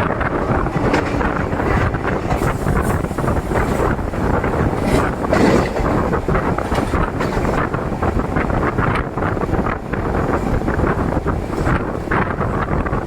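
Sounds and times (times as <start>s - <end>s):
coach rattling over track: 0.0s - 13.0s
train running rumble: 0.0s - 13.0s
wind buffeting microphone: 0.0s - 13.0s.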